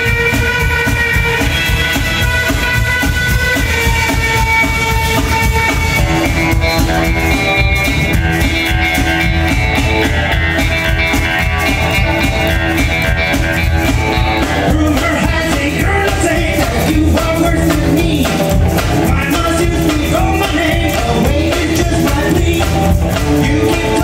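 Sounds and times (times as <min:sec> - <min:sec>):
electric guitar lead: 0:00.0 - 0:24.0
live rock and roll band: 0:00.0 - 0:24.0.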